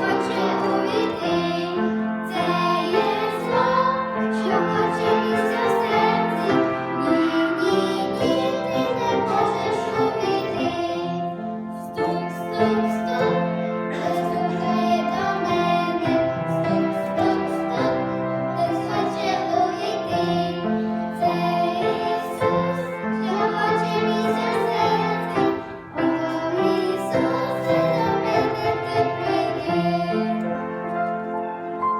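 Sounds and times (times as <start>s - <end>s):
musical accompaniment: 0.0s - 31.9s.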